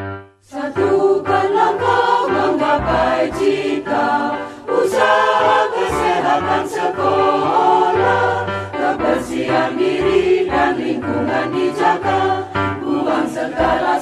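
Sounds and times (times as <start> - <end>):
choir singing with accompaniment: 0.0 - 14.0
held keyboard chord: 0.0 - 14.0.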